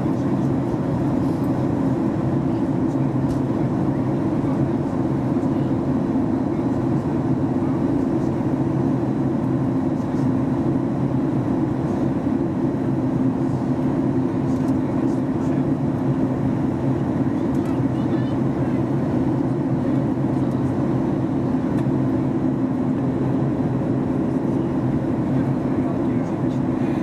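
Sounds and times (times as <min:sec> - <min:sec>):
airplane cabin drone: 0:00.0 - 0:27.0.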